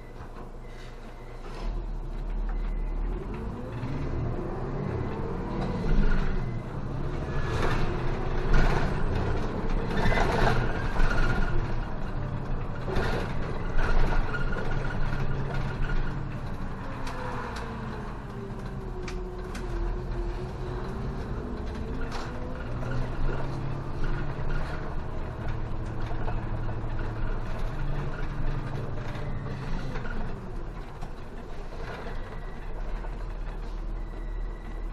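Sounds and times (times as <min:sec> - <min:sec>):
bus engine accelerating: 0:00.0 - 0:34.9.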